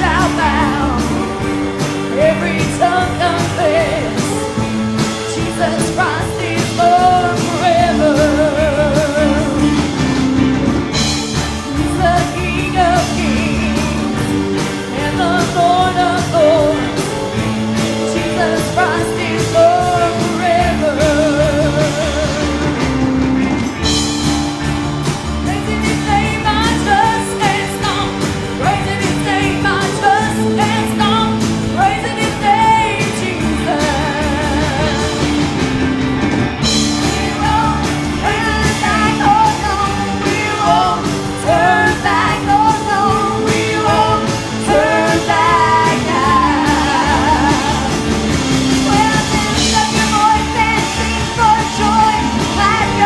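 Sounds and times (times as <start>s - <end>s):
person singing with vibrato: 0.0s - 23.2s, 25.4s - 53.0s
full band with steady beat: 0.0s - 53.0s.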